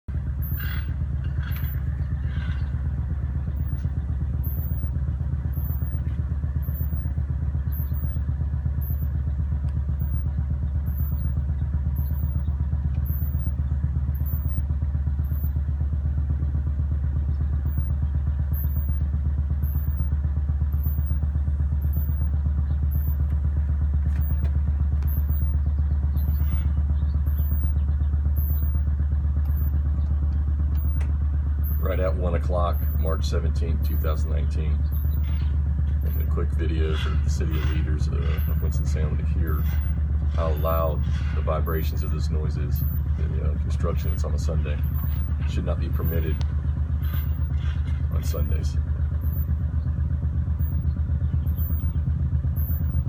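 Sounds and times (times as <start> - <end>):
construction machinery low rumble: 0.0 - 53.0.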